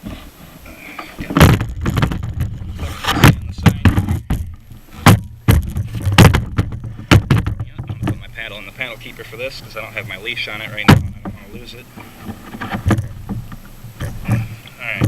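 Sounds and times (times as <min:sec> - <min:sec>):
gear knocking against kayak hull: 0:00.0 - 0:15.0.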